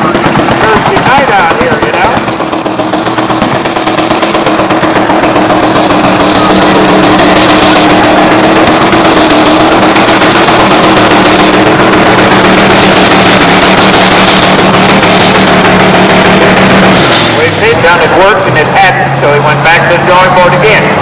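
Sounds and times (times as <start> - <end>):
supercharged truck engine full throttle: 0.0 - 21.0.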